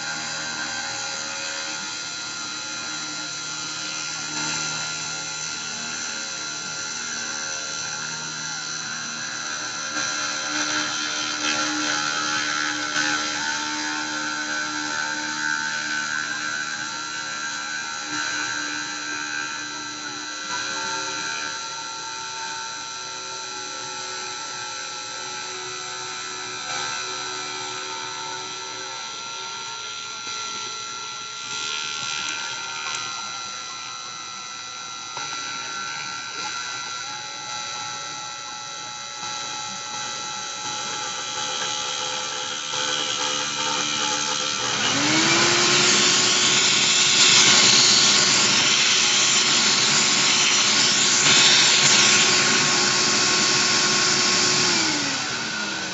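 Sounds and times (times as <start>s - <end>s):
rotary tool milling plastic: 0.0s - 24.5s, 35.0s - 55.9s.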